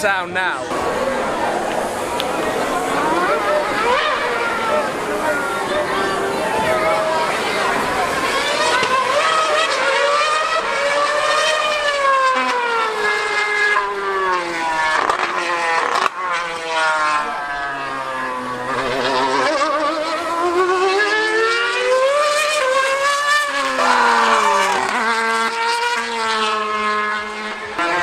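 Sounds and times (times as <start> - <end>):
racing car engine screaming: 0.6 - 28.0.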